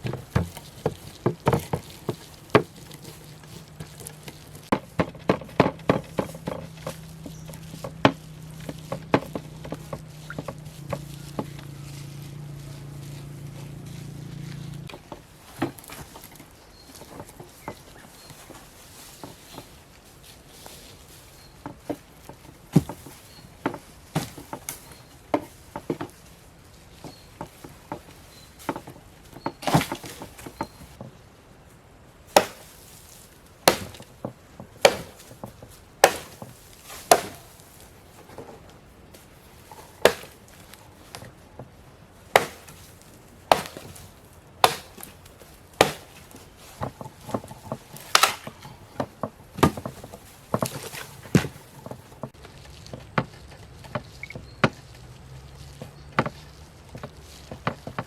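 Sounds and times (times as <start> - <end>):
chopping wood: 0.0 - 19.8, 21.6 - 26.3, 27.0 - 31.1, 32.3 - 32.9, 33.6 - 38.4, 39.7 - 58.0
light irregular knocks: 0.0 - 20.1, 20.9 - 31.2, 32.3 - 58.0.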